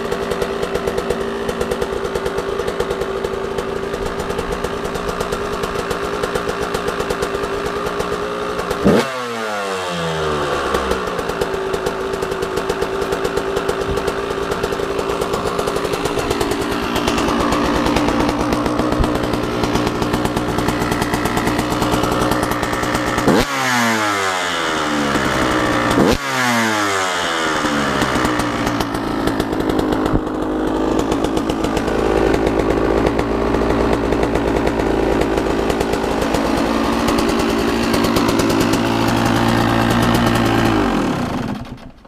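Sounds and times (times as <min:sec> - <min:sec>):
dirt bike engine revving and idling: 0:00.0 - 0:42.0.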